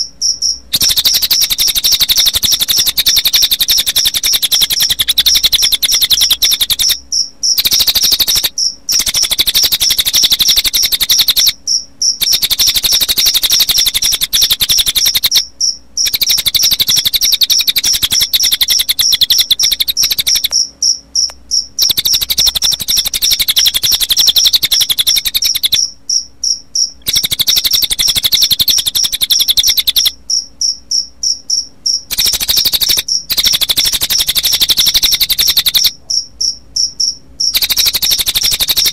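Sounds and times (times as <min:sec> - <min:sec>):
bird calls: 0:00.0 - 0:26.2, 0:26.8 - 0:30.8, 0:31.5 - 0:36.3, 0:37.5 - 0:38.9
crickets chirping: 0:00.0 - 0:38.9.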